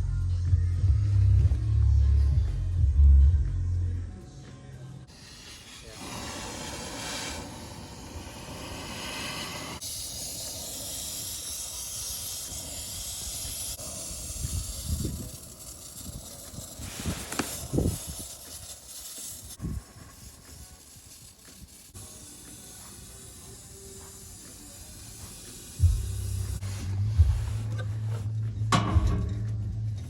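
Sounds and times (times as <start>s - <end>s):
steady hissing noise: 4.6s - 30.0s.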